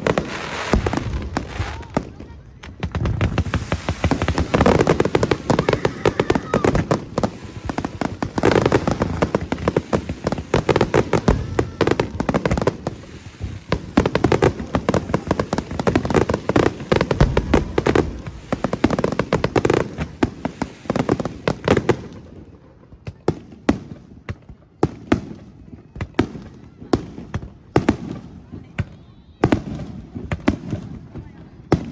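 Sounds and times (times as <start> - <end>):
fireworks crackling: 0.0 - 31.9.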